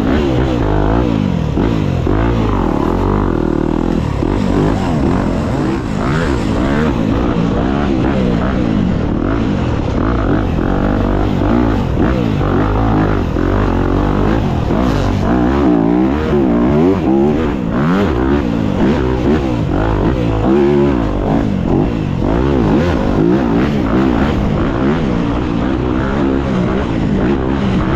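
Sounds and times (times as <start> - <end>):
dirt bike engine revving: 0.0 - 27.9.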